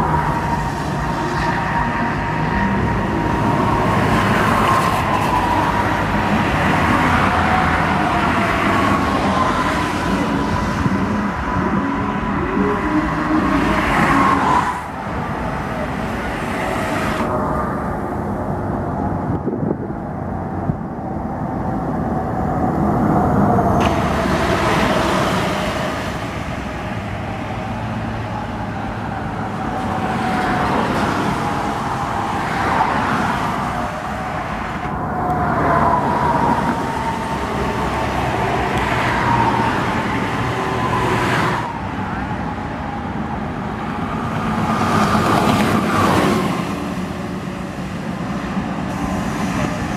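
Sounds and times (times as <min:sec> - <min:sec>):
highway traffic passing: 0:00.0 - 0:49.9.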